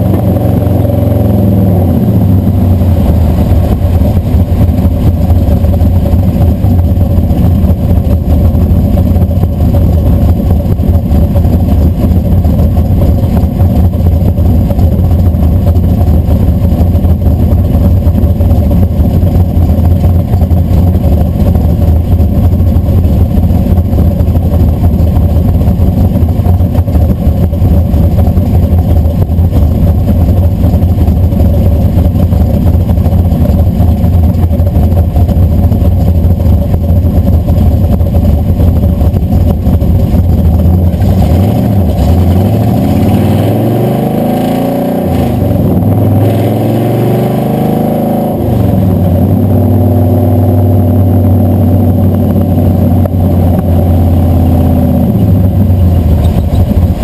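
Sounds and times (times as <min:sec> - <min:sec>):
truck engine idling: 0:00.0 - 0:47.5, 0:48.4 - 0:57.0
truck engine accelerating: 0:00.0 - 0:57.0.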